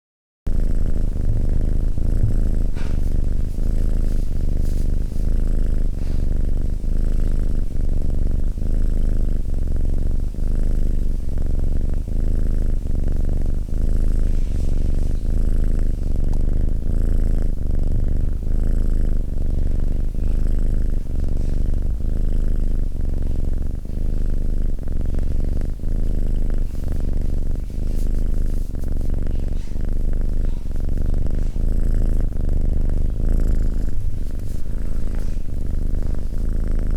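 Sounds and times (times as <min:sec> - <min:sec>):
cat purring: 0:00.5 - 0:36.9.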